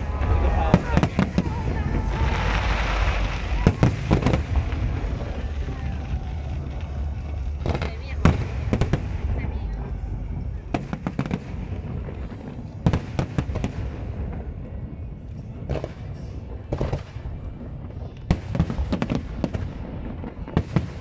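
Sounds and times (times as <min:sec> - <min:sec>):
fireworks rumble: 0:00.0 - 0:21.0
fireworks sharp bangs: 0:00.0 - 0:21.0.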